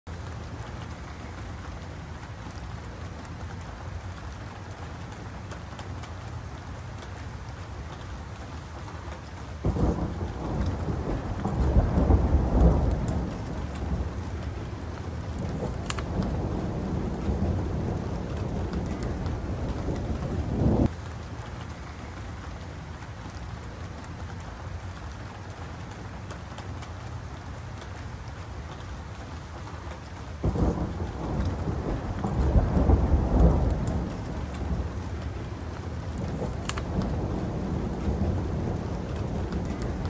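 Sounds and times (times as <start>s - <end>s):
thunder rumbling: 0.1s - 26.8s, 27.4s - 40.0s
rain hiss: 0.1s - 40.0s.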